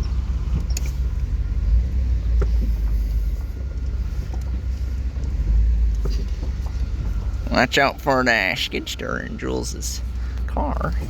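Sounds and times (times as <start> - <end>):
engine running low rumble: 0.0 - 11.0.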